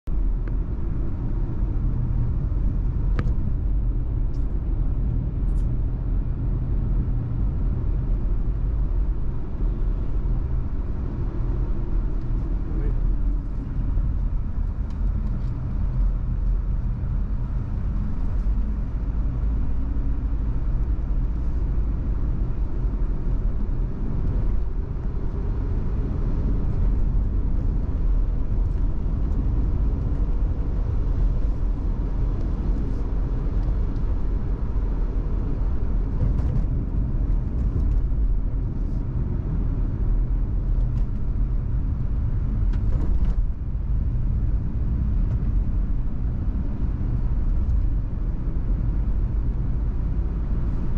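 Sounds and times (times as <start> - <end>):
car driving on dirt road: 0.1 - 50.9.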